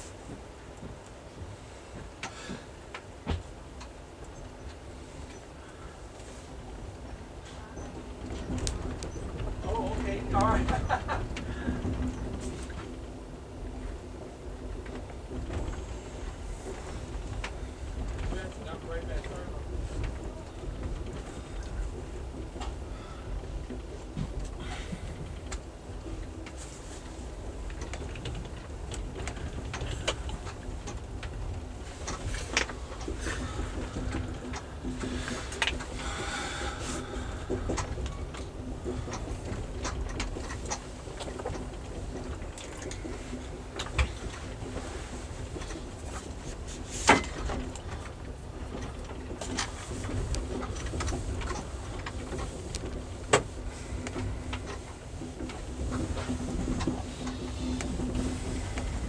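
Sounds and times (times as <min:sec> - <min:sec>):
train rumbling: 0:00.0 - 0:59.0
light ticks and rattles: 0:00.1 - 0:59.0.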